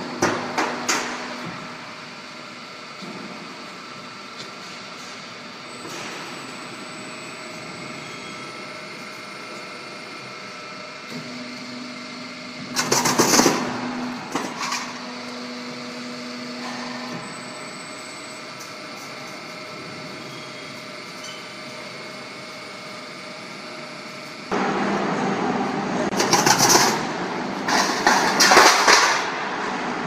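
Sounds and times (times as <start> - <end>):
roll forming machine running: 0.0 - 30.0.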